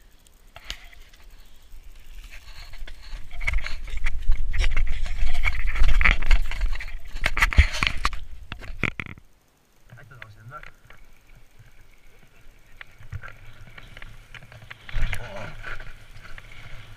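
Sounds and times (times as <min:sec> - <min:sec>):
bike tyres crunching over rocks: 0:00.3 - 0:16.9.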